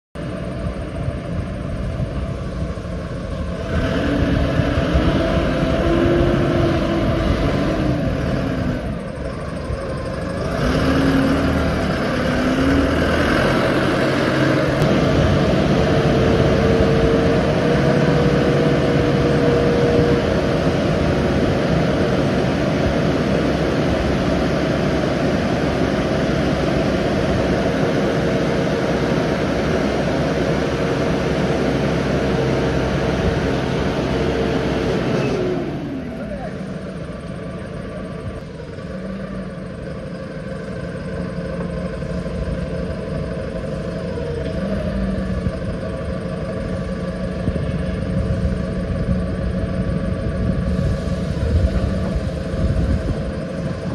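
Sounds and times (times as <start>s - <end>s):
forklift engine revving: 0.2s - 53.9s
whine gliding in pitch: 0.2s - 53.9s.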